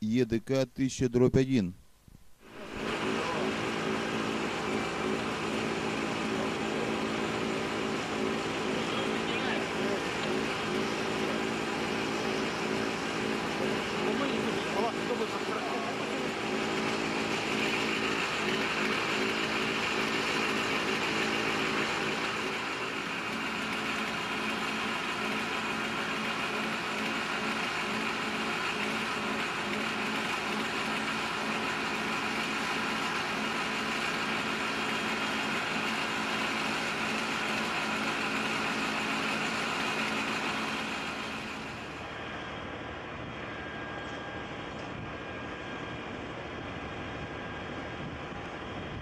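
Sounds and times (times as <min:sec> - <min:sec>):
crane engine running under load: 0:02.4 - 0:49.0.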